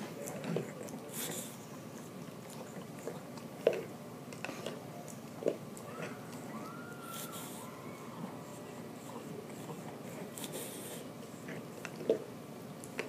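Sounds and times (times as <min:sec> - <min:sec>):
dog licking and smacking: 0:00.1 - 0:06.7, 0:08.4 - 0:13.0.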